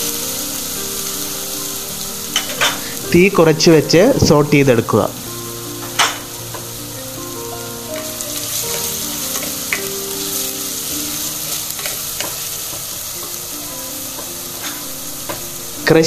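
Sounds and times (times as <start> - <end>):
shallots sizzling in hot oil: 0.0 - 16.0.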